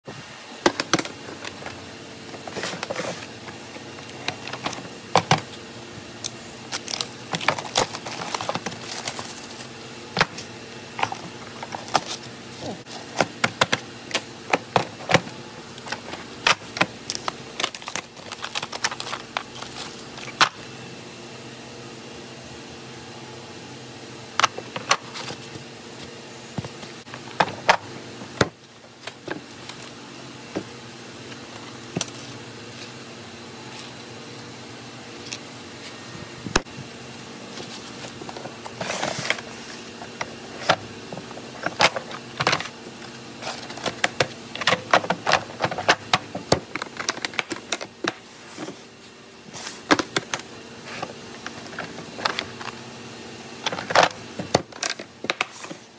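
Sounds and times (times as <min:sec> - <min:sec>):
steady background hum: 0:00.0 - 0:55.9.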